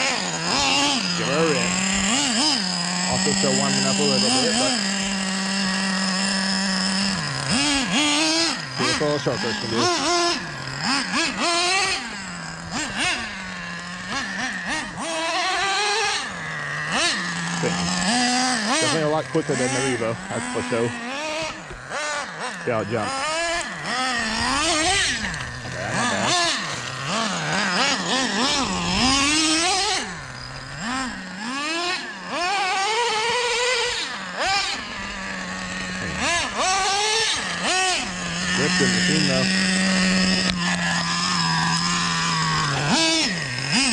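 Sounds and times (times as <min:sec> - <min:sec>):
rc truck engine revving: 0:00.0 - 0:43.9.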